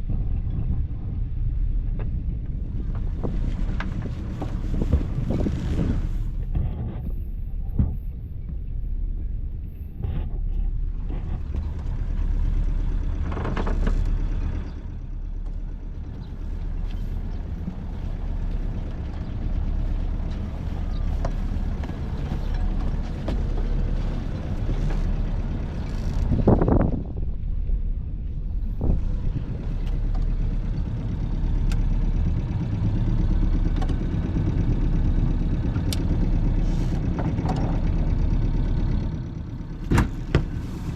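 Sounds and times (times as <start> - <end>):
boat engine idling: 0.0 - 40.9.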